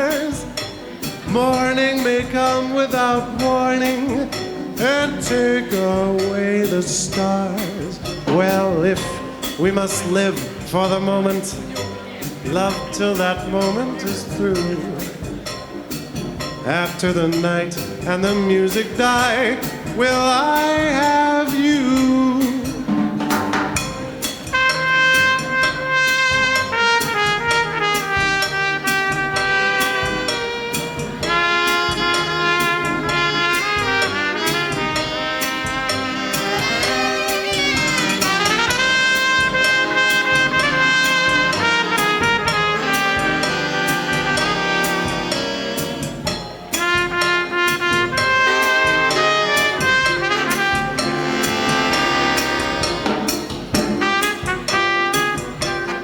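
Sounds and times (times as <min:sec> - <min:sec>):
brass and saxophones melody: 0:00.0 - 0:56.0
drum kit beat: 0:00.0 - 0:56.0.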